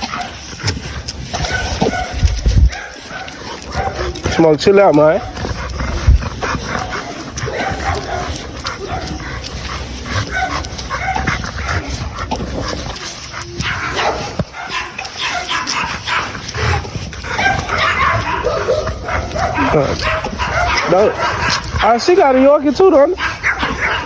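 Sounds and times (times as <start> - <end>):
dogs barking and yipping: 0.0 - 24.0.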